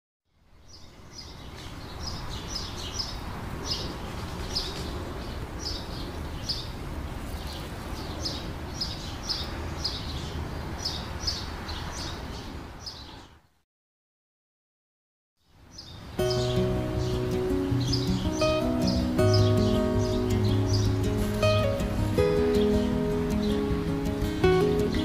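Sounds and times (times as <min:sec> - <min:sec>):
small birds chirping: 0:00.3 - 0:13.6, 0:15.4 - 0:25.0.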